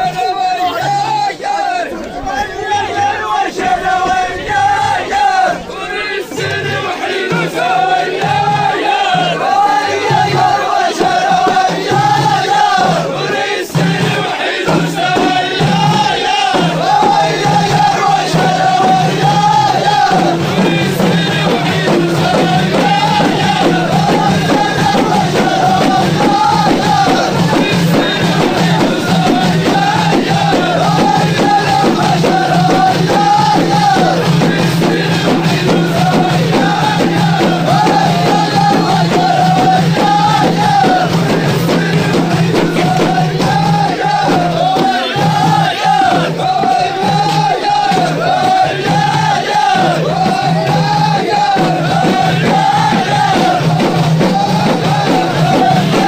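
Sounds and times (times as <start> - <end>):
frame drums beating: 0.0 - 56.0
men chanting in unison: 0.0 - 56.0.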